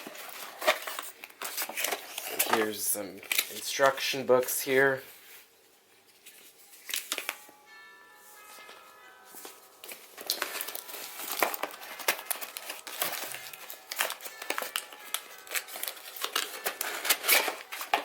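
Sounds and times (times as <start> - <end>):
packaging crinkling and rustling: 0.0 - 4.1, 5.2 - 7.6, 9.4 - 18.0.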